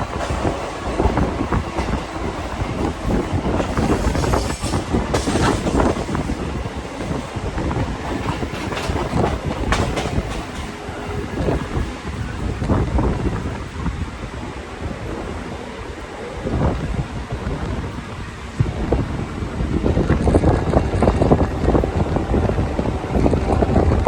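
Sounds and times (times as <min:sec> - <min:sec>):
electric train wheels clattering: 0:00.0 - 0:24.0.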